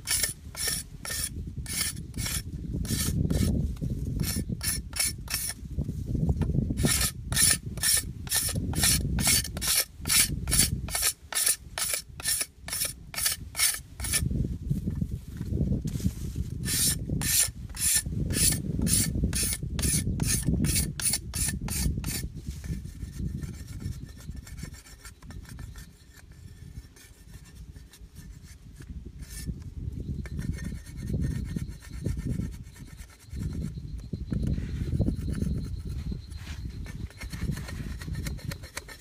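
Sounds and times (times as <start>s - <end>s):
cleaver scraping bamboo: 0.0s - 3.6s, 4.2s - 5.6s, 6.7s - 14.3s, 16.6s - 29.6s, 30.2s - 39.0s.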